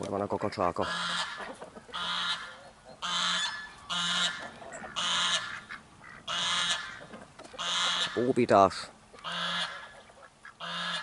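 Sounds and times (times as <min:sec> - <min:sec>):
domestic waterfowl calling: 0:00.7 - 0:08.4, 0:09.1 - 0:11.0.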